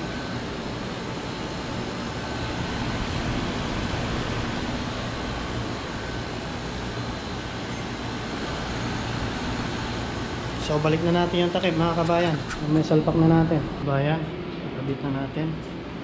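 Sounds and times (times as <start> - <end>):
air conditioner fan rushing air: 0.0 - 16.0.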